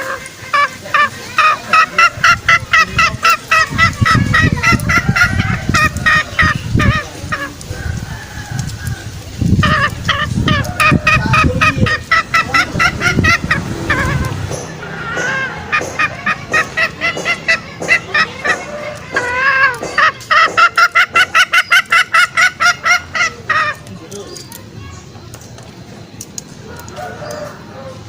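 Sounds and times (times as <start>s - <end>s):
junglefowl clucking calls: 0.0s - 24.9s, 26.2s - 28.0s.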